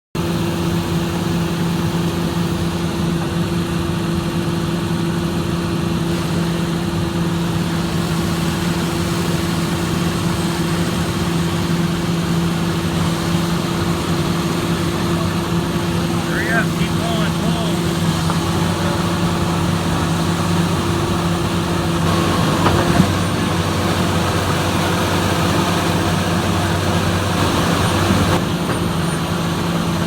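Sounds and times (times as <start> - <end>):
diesel engine idling: 0.2 - 30.0.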